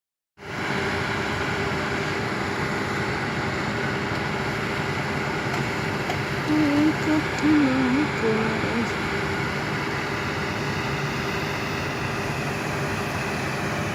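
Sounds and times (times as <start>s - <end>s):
excavator diesel engine running: 0.4s - 13.9s.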